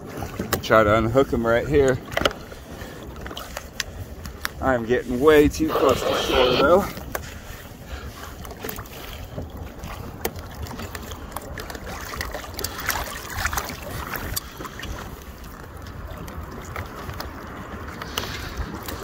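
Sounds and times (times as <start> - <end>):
water lapping and splashing: 0.0 - 19.0.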